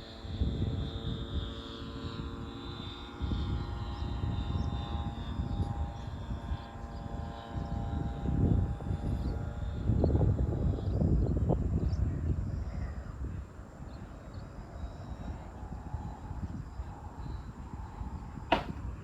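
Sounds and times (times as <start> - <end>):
model airplane propeller and motor: 0.0 - 19.0.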